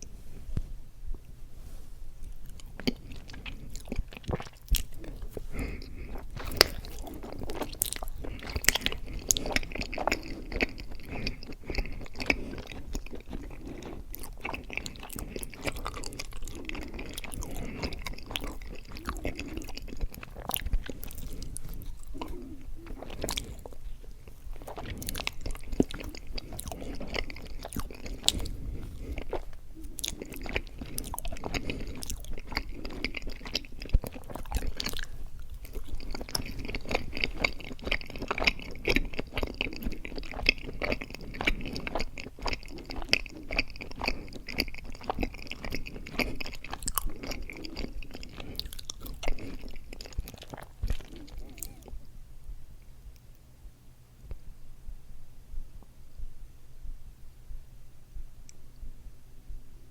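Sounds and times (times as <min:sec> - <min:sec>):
wet sticky chewing: 0:02.2 - 0:52.1.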